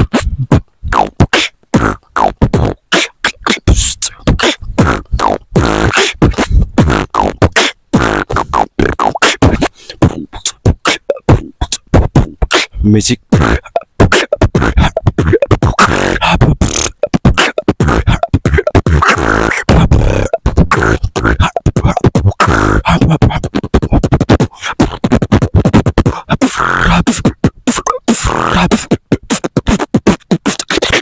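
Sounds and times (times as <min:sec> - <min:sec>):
human beatboxing: 0:00.0 - 0:31.0.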